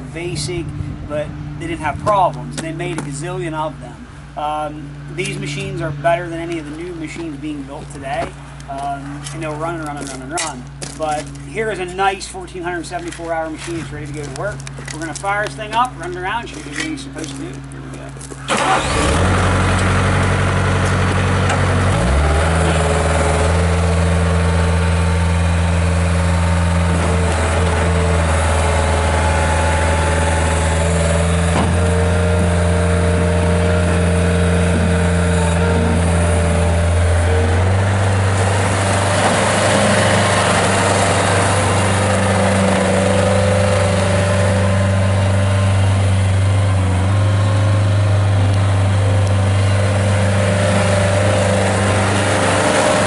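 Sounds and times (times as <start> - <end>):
diesel engine starting and running: 0.0 - 53.0.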